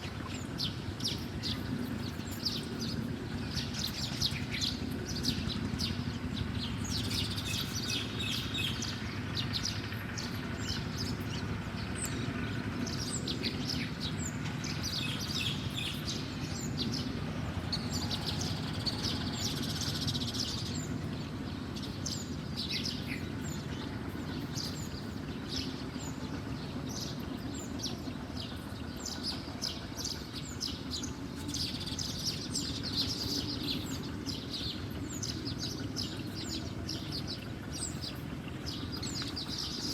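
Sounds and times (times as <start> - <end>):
small birds chirping: 0.0 - 39.9
steady low hum: 0.0 - 39.9.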